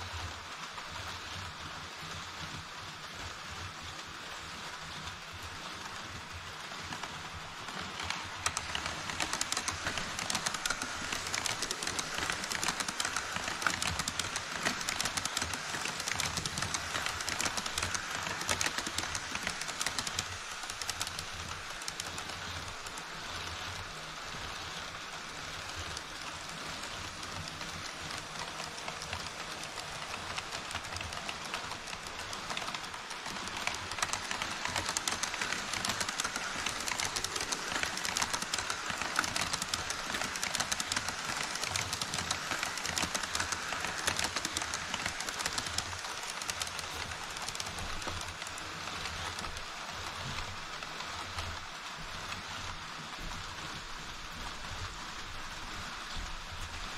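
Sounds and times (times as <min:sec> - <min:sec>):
model train motors whirring: 0:00.0 - 0:56.9
model train wheels clattering: 0:00.0 - 0:56.9.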